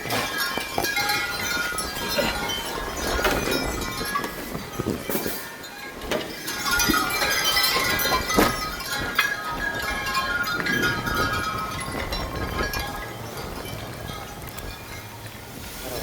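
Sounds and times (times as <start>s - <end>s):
metallic clinking and ringing: 0.0s - 15.6s
gusty wind on microphone: 0.0s - 16.0s.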